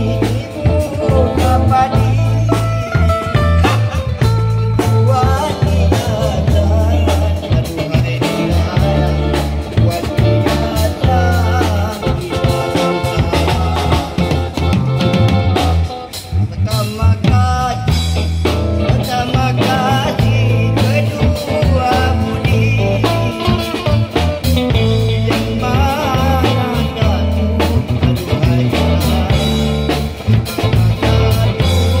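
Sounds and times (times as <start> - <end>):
drums: 0.0 - 32.0
heavy bass line: 0.0 - 32.0
person singing: 0.0 - 32.0.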